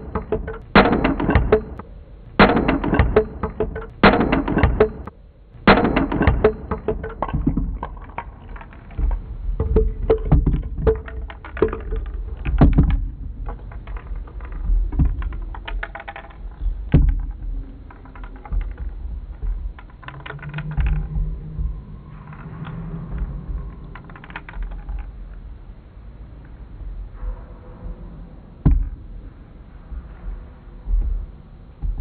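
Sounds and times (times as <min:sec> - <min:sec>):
low rumble: 0:00.0 - 0:15.8, 0:16.4 - 0:32.0
irregular clicks and knocks: 0:00.0 - 0:25.5, 0:28.6 - 0:32.0
low hum: 0:00.0 - 0:32.0.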